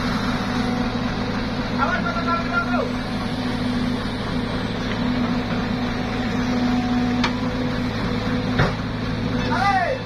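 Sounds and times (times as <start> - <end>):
heavy diesel engines droning: 0.0 - 10.0.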